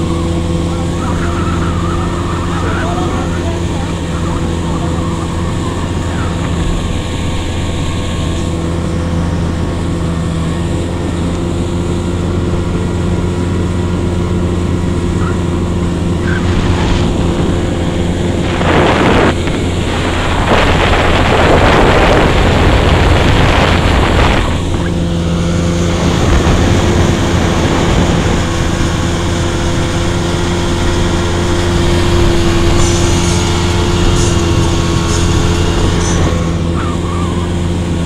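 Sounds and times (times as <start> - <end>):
outboard motor running: 0.0 - 38.0
rushing water: 0.0 - 38.0
wind on microphone: 0.0 - 38.0.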